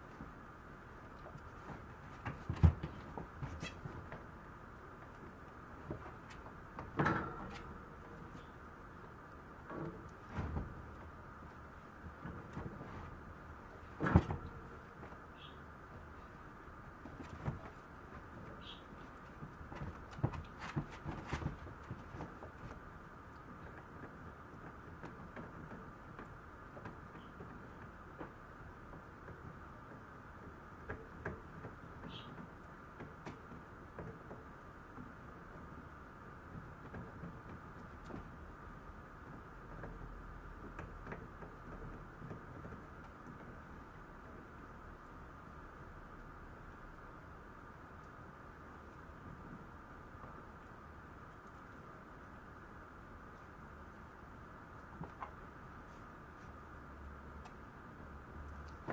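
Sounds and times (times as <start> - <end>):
background hum: 0.0 - 58.9.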